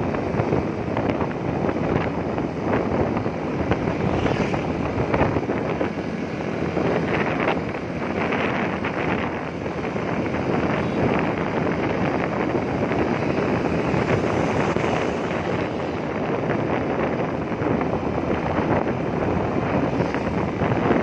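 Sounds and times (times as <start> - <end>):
vehicle and road noise: 0.0 - 21.0
wind buffeting microphone: 0.0 - 21.0.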